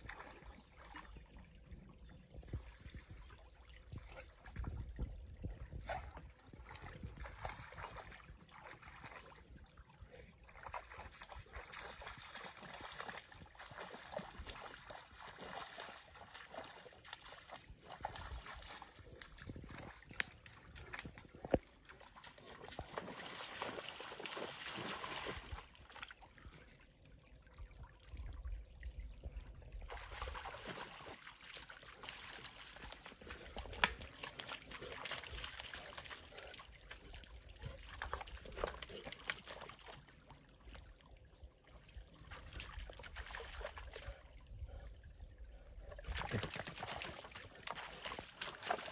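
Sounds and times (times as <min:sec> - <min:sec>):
stream trickling: 0:00.0 - 0:48.9
water sloshing and splashing: 0:04.0 - 0:48.9.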